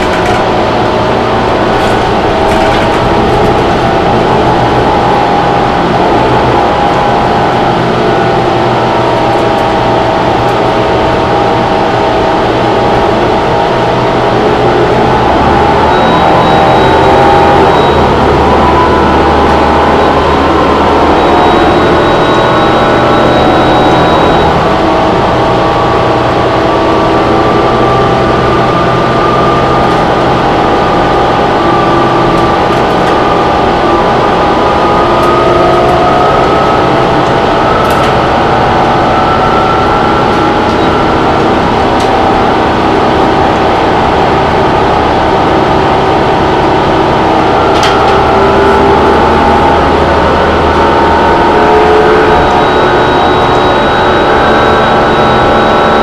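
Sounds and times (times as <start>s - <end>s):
bus engine rumble and whine: 0.0s - 56.0s.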